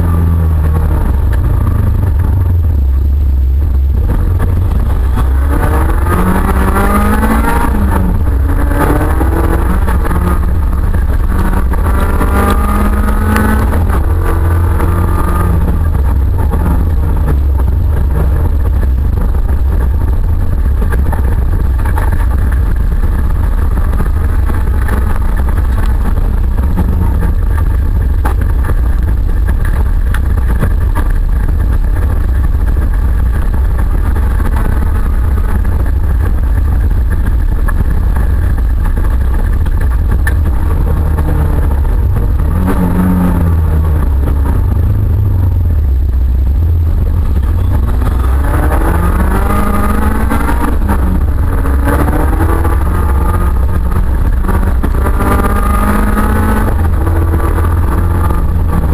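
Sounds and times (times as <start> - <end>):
heavy low rumble: 0.0 - 58.9
race car engine revving: 0.0 - 58.9.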